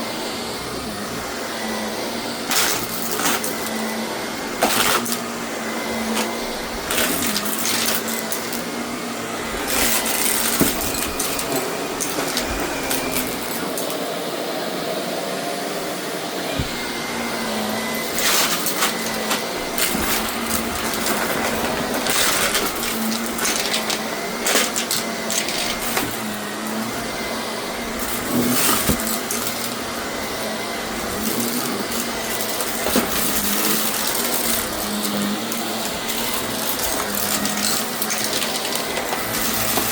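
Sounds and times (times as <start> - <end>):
vacuum cleaner motor humming: 0.0 - 39.9.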